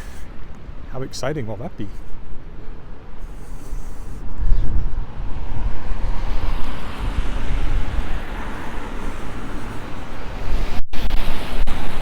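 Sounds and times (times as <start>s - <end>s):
road traffic passing: 0.0s - 12.0s
wind buffeting microphone: 2.0s - 12.0s.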